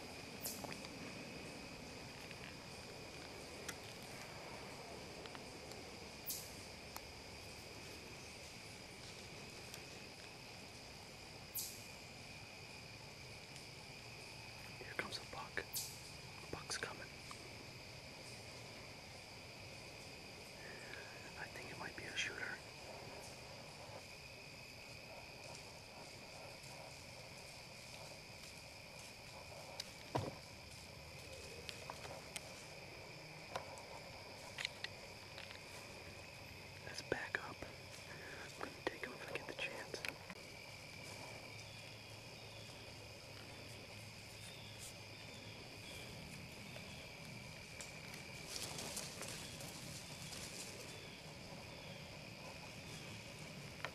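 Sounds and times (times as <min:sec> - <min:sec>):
insects trilling: 0:00.0 - 0:53.9.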